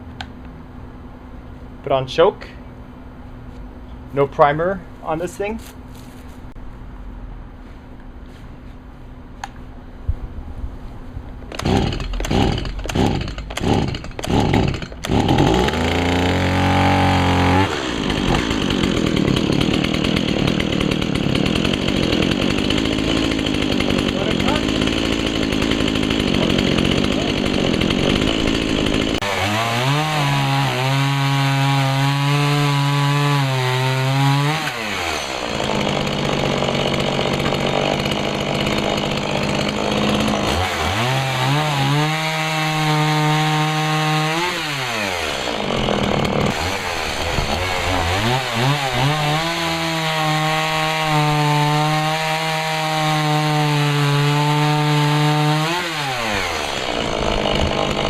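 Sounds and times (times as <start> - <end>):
chainsaw cutting wood: 11.4 - 58.0.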